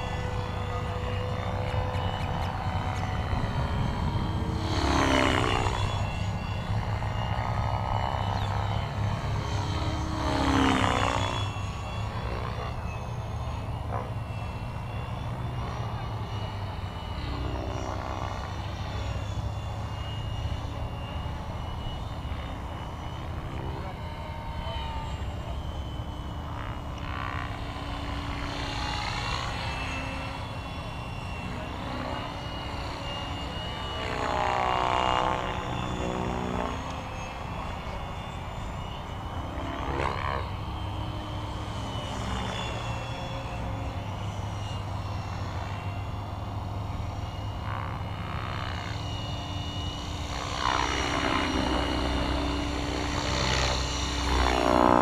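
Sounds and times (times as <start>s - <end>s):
helicopter rotor noise: 0.0s - 55.0s
rc helicopter motor whine: 0.0s - 55.0s.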